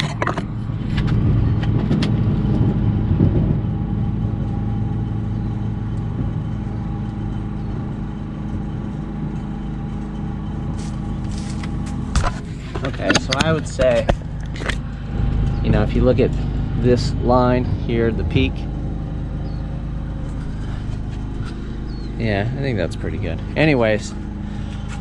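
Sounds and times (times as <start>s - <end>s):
generator engine humming: 0.0s - 25.0s.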